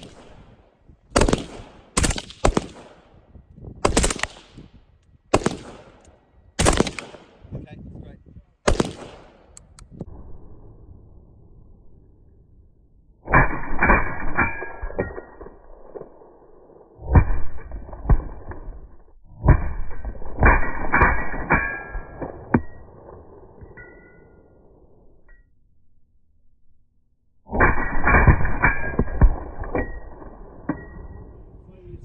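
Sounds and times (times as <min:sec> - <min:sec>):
slow-motion suppressed rifle shots: 0:00.0 - 0:07.5, 0:08.7 - 0:12.1, 0:13.1 - 0:25.3, 0:27.5 - 0:31.6.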